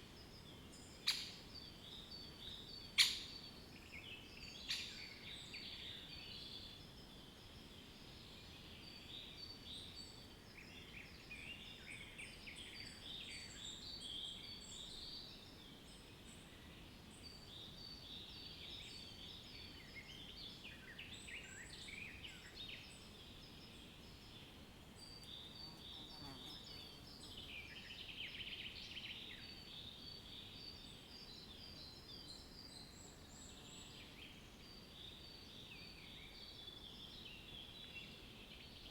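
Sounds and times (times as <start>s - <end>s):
faint low background hiss: 0.0s - 38.9s.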